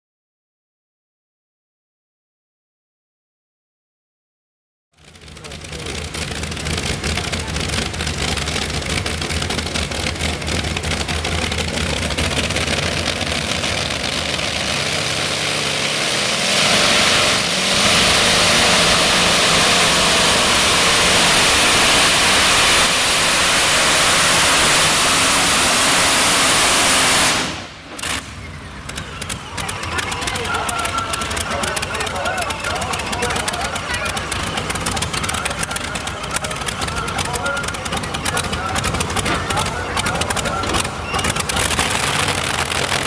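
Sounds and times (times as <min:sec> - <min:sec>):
racing tractor engine rumbling: 0:05.0 - 0:43.0.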